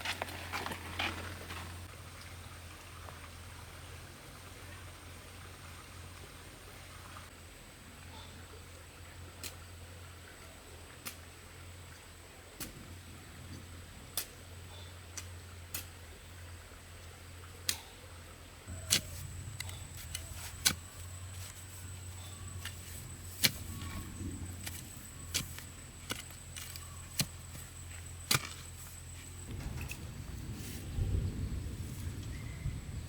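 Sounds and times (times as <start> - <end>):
low steady hum: 1.2 - 33.0.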